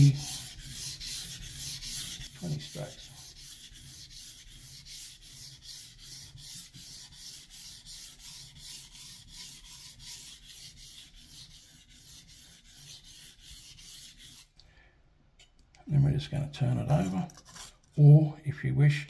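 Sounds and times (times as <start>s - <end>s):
knife scraping on whetstone: 0.0s - 14.5s, 16.8s - 17.9s.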